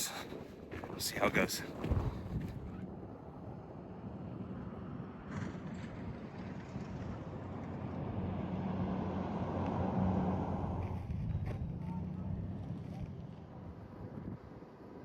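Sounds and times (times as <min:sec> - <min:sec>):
road and wind rushing: 0:00.0 - 0:15.0.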